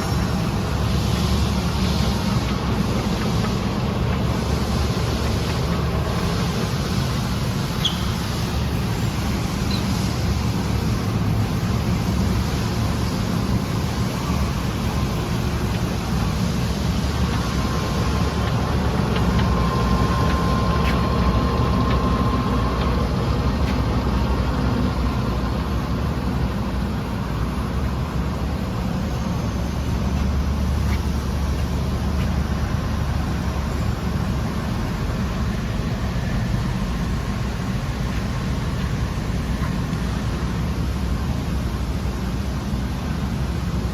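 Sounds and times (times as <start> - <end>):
lathe running with low hum: 0.0 - 43.9.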